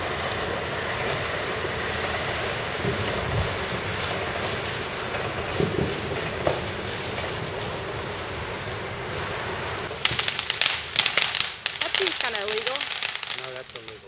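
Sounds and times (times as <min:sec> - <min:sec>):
firework hissing sparks: 0:00.0 - 0:14.0.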